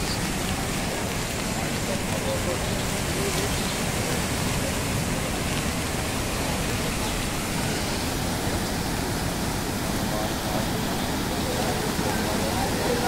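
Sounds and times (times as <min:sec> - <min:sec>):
flooded river rushing: 0:00.0 - 0:13.0.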